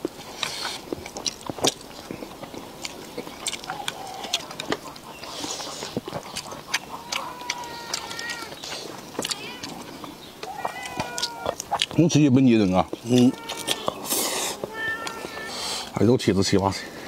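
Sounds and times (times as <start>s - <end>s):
person chewing wet smacking: 0.0s - 15.5s.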